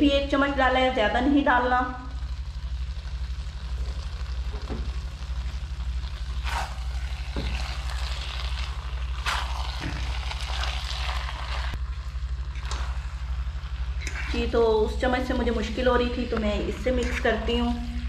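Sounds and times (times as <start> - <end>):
light sizzling: 0.0 - 18.0
steady low hum: 0.0 - 18.0.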